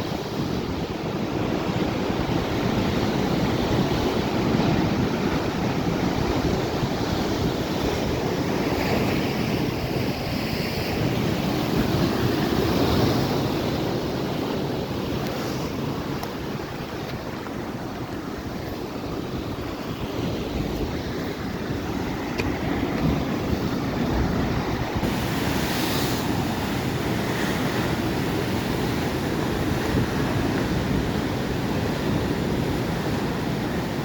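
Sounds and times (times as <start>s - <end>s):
ocean waves breaking: 0.0s - 34.0s
wind on microphone: 0.0s - 34.0s.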